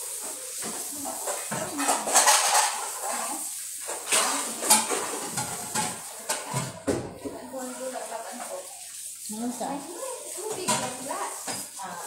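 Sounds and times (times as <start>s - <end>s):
dishes and cutlery clattering: 0.0s - 8.8s, 10.1s - 11.8s.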